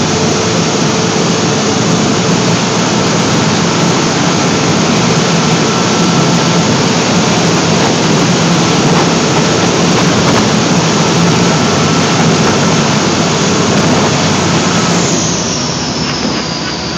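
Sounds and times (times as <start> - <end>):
boat engine running hard: 0.0 - 16.9
high whine sliding down: 0.0 - 16.9
propeller wash churning water: 0.0 - 16.9.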